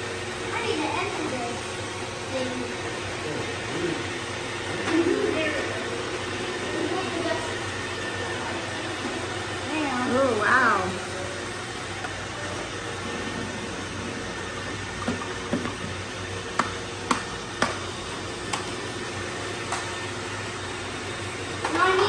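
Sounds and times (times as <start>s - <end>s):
robot vacuums running: 0.0s - 22.0s.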